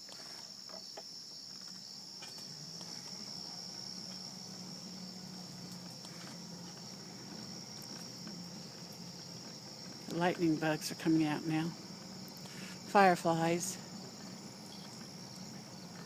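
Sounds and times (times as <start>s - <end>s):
crickets and night insects trilling: 0.0s - 16.0s
low motor hum: 2.3s - 16.0s.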